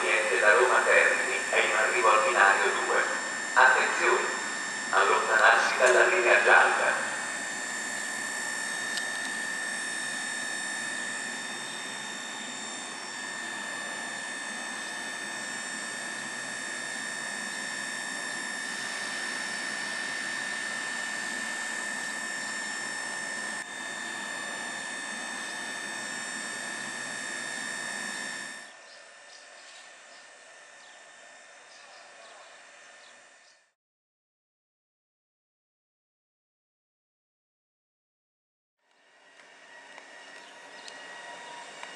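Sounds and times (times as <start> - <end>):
fan noise: 0.0 - 33.5, 39.1 - 41.9
locomotive equipment whine: 0.0 - 33.7, 38.9 - 41.9.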